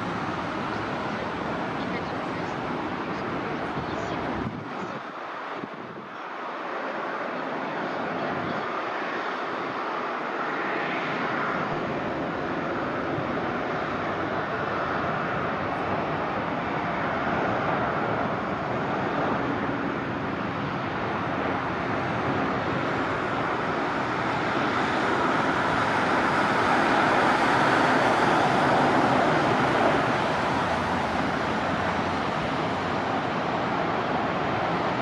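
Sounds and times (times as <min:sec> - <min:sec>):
jet engine rushing: 0:00.0 - 0:35.0.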